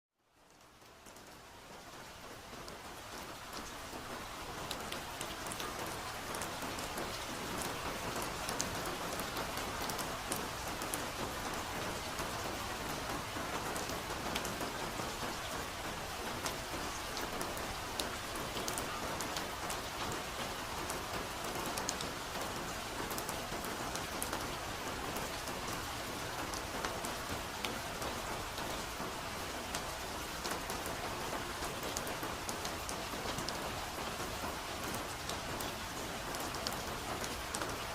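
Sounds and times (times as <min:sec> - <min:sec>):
rain pattering on leaves: 0:00.2 - 0:37.9.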